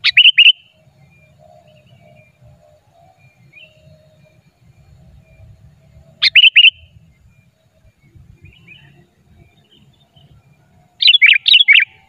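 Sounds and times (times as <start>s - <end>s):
bulbul calling: 0.0s - 12.0s
faint bird chirps: 0.0s - 12.0s.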